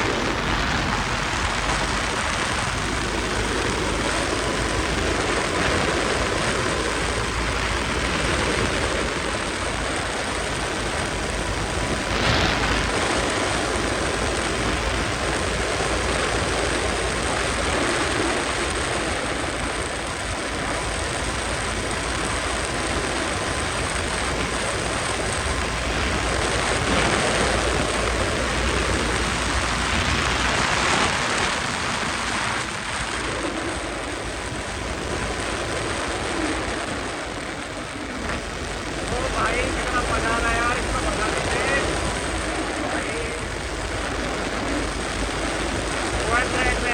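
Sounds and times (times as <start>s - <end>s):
motorcycle running at speed: 0.0s - 46.9s
wind rushing over microphone: 0.0s - 46.9s.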